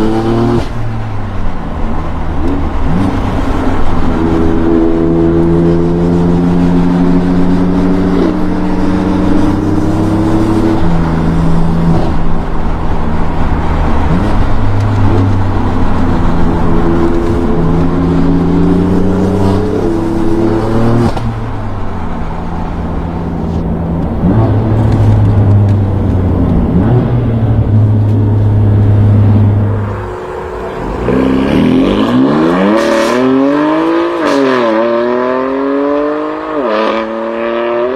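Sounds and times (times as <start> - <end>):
car engine revving under load: 0.0 - 37.9.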